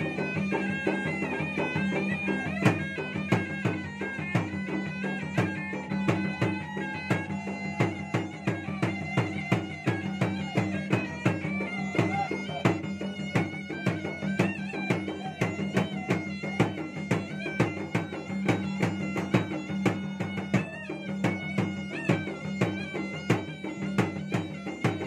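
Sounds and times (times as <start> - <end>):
barrel drums beaten in quick rhythm: 0.0 - 25.0
wind instrument high melody: 0.0 - 25.0.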